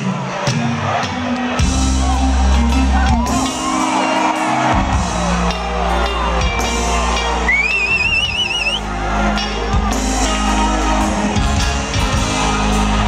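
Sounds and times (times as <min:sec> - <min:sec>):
crowd whooping and shouting: 0:00.0 - 0:13.0
live soul band playing: 0:01.0 - 0:13.0.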